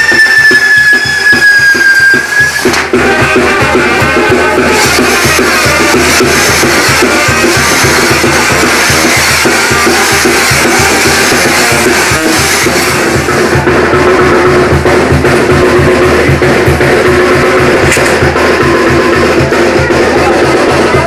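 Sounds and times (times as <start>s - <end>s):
loud music with drums: 0.0s - 21.0s.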